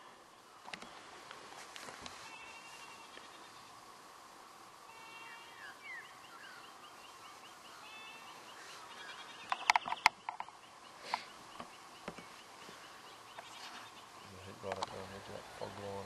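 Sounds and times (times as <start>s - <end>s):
faint bird chirps: 2.2s - 16.0s.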